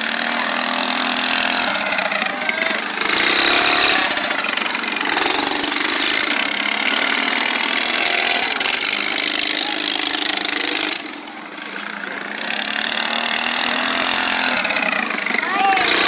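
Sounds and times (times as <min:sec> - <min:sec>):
mini bike engines racing: 0:00.0 - 0:16.0.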